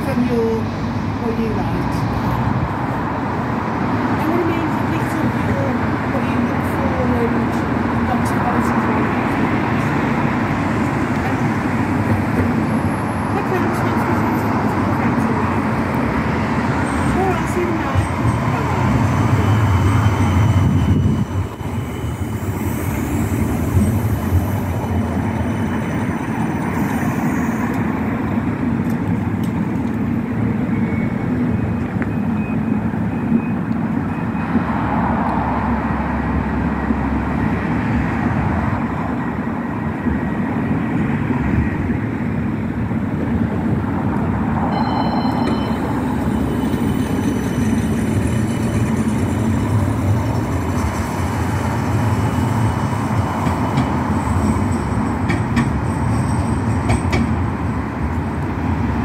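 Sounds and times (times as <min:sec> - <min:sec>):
tram rolling and humming: 0:00.0 - 0:59.0.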